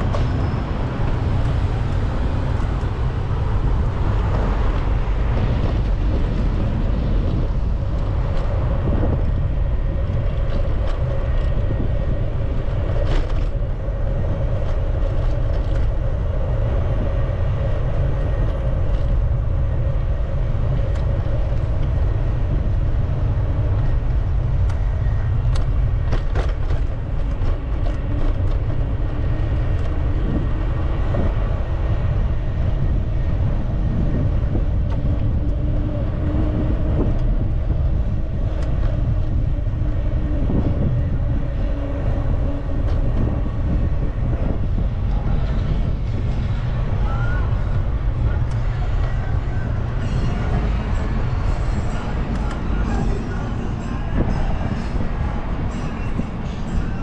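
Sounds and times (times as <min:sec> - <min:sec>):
road noise: 0:00.0 - 0:57.0
wind on microphone: 0:00.0 - 0:57.0.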